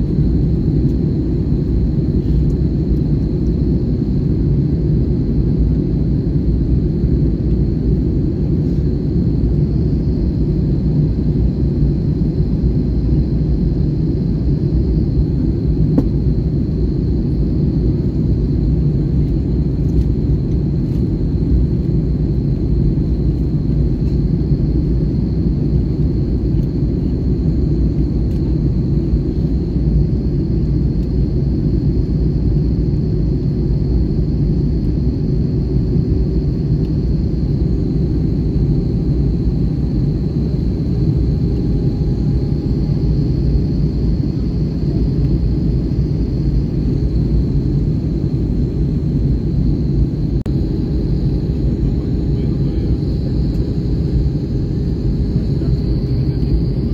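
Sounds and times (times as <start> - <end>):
airliner cabin engine rumble: 0.0 - 56.9
faint high whine: 0.0 - 56.9.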